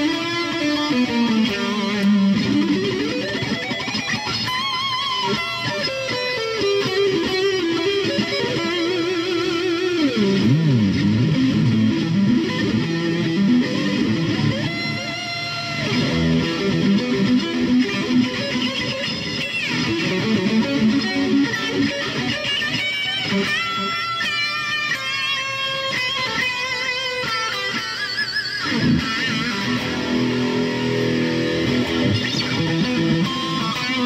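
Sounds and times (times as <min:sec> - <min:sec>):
distorted electric guitar: 0:00.0 - 0:34.0.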